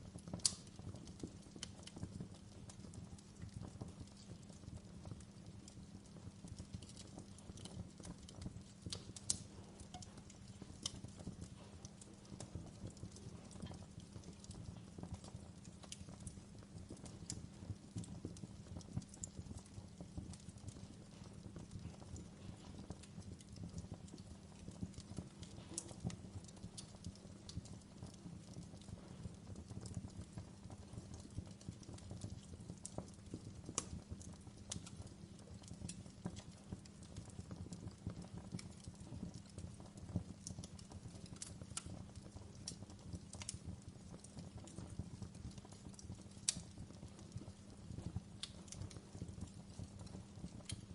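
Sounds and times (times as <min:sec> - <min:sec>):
wood fire burning: 0:00.0 - 0:50.9.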